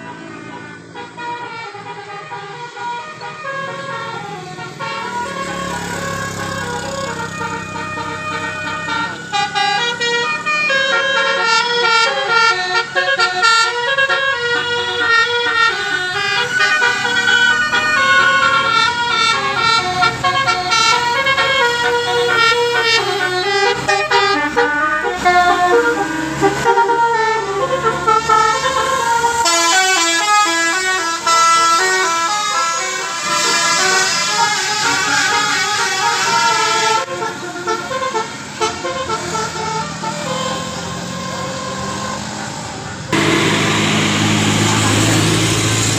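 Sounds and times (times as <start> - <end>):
musical bus horn playing tune: 0.0 - 45.9.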